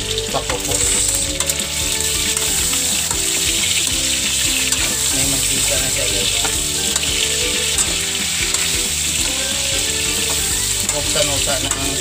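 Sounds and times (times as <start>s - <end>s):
background music with melody: 0.0s - 12.0s
meat sizzling in a wok: 0.0s - 12.0s.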